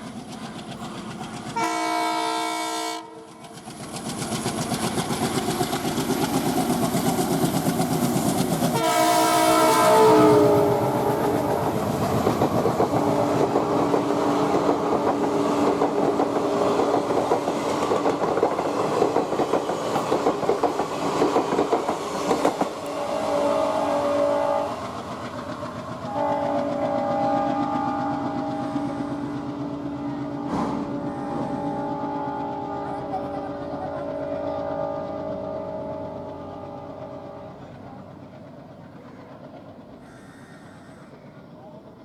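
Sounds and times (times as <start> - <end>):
train wheels clattering: 3.3 - 23.0, 24.2 - 42.0.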